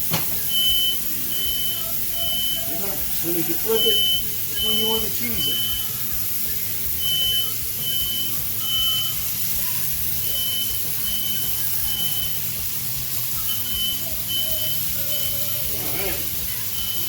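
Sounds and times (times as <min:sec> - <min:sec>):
smoke alarm beeping: 0:00.0 - 0:17.0
steady hiss: 0:00.0 - 0:17.0.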